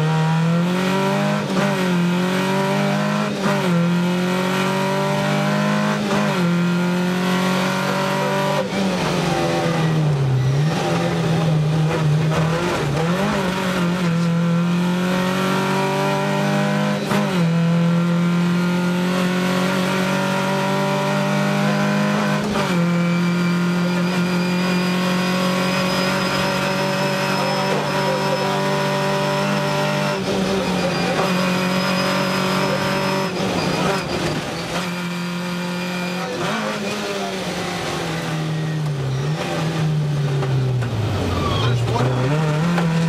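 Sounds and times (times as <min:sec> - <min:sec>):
rally car engine at high revs: 0:00.0 - 0:43.0.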